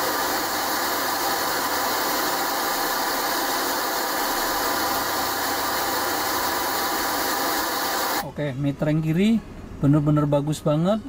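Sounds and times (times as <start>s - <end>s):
test noise hiss from speakers: 0.0s - 11.0s.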